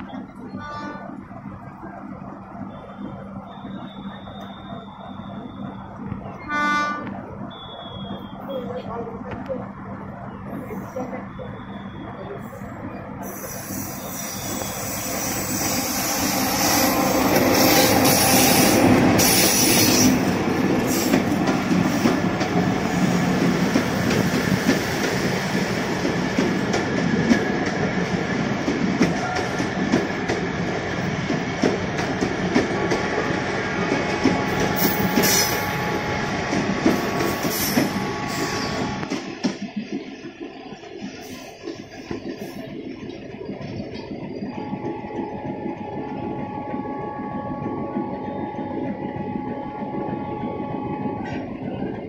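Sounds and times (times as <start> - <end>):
diesel locomotive passing: 0.0 - 52.0.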